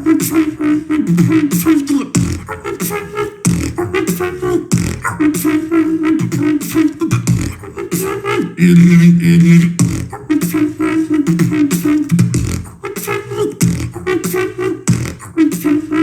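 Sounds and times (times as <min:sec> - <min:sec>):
beatboxing vocal drum hits: 0:00.0 - 0:16.0
hummed bassline: 0:00.0 - 0:16.0.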